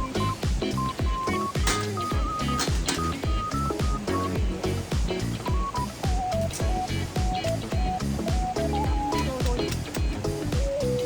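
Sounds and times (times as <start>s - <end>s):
kick drum: 0.0s - 10.8s
bass line: 0.0s - 11.0s
simple high melody: 0.0s - 11.0s.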